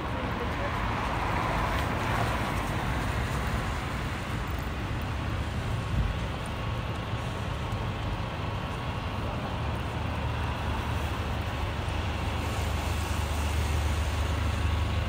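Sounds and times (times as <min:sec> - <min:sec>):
cars passing on wet road: 0:00.0 - 0:15.0.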